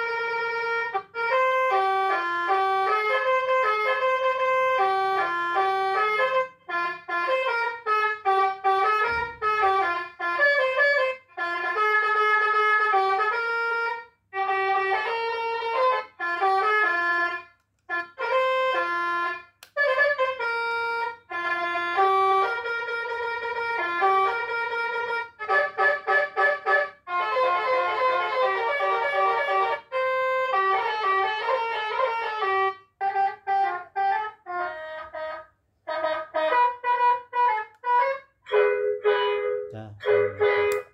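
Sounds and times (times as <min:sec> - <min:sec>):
electronic bus horn playing tunes: 0:00.0 - 0:40.9.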